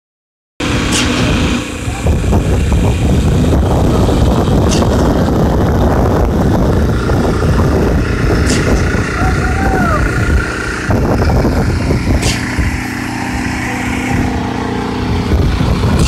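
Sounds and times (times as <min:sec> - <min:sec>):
construction machinery running: 0:00.6 - 0:16.0.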